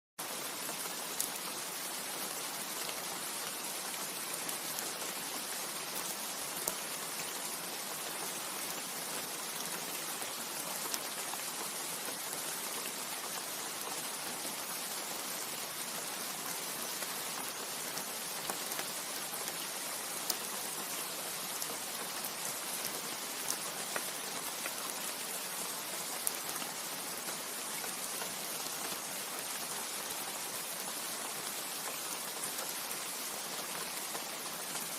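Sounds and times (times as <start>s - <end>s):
rain falling on leaves: 0.2s - 34.9s.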